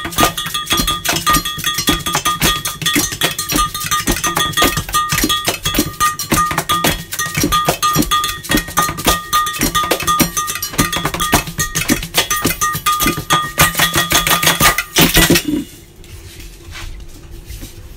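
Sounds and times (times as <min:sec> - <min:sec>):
loud percussive hit: 0:00.0 - 0:15.9.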